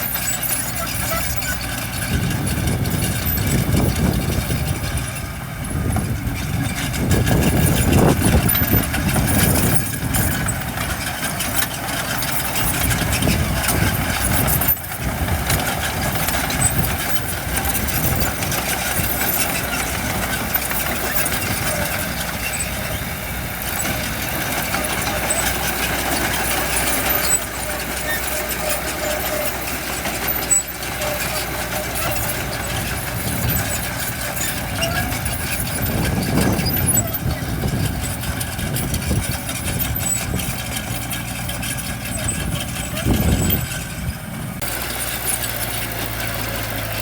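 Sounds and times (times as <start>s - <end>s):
diesel engines running: 0.0s - 47.0s.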